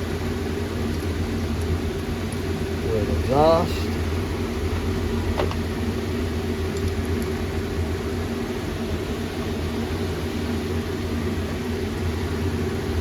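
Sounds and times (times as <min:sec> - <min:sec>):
low mechanical hum of machine: 0:00.0 - 0:13.0.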